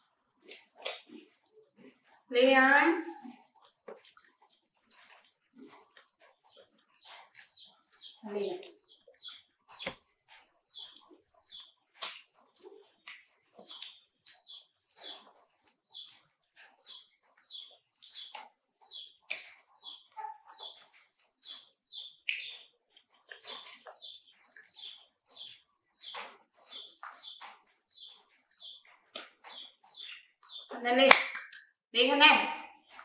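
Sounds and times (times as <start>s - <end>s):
monkeys rustling seed pods: 0.4s - 31.1s.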